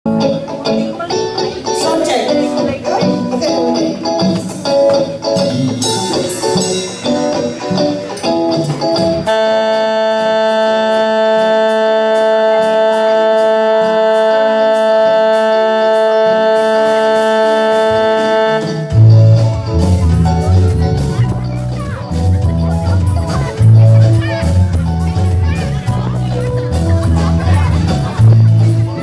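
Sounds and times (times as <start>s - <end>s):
band playing live: 0.1s - 29.0s.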